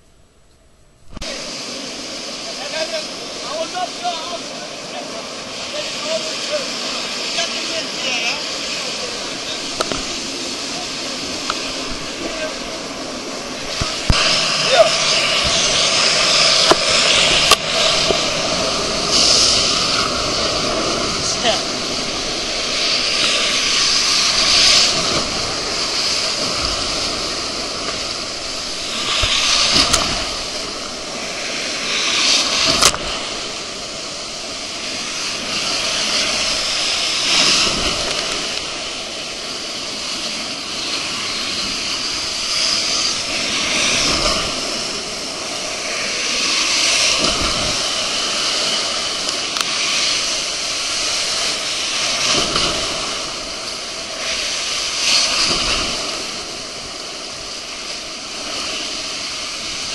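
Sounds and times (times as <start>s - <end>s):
water rushing and spraying: 1.0s - 59.9s.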